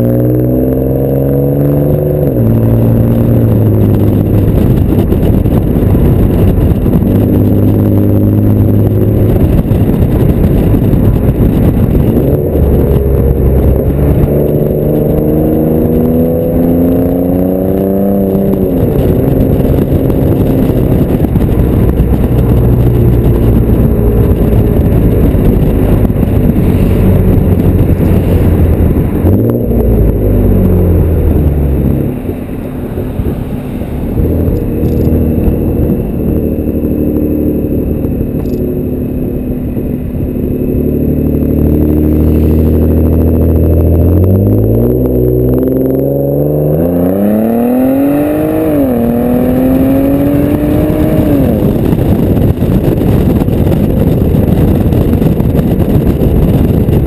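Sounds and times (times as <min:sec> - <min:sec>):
car exhaust note accelerating: 0:00.0 - 0:57.0
wind rushing over microphone: 0:00.0 - 0:57.0.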